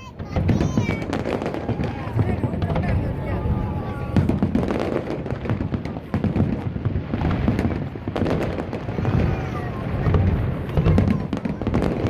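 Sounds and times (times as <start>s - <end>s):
deep firework booms: 0.0s - 12.0s
fireworks crackling and popping: 0.0s - 12.0s.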